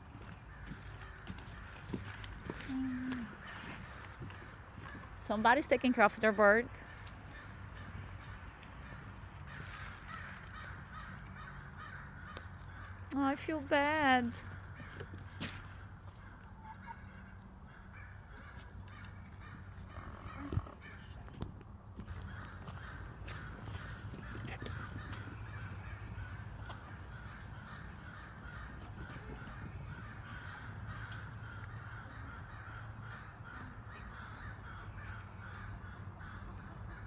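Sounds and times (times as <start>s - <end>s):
crows cawing: 0.1s - 5.2s, 6.8s - 21.2s, 22.1s - 37.0s.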